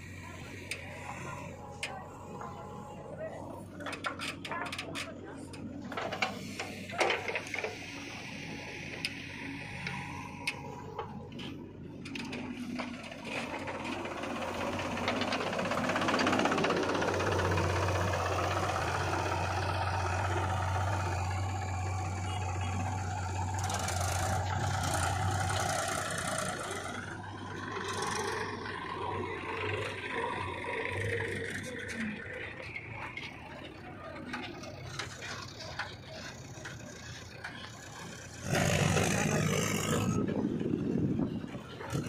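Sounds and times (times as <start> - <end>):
diesel engines droning: 0.0 - 42.0.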